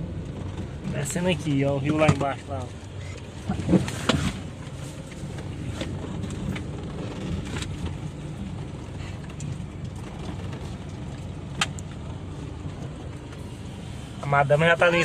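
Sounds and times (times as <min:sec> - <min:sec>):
car rumbling on dirt track: 0:00.0 - 0:15.0.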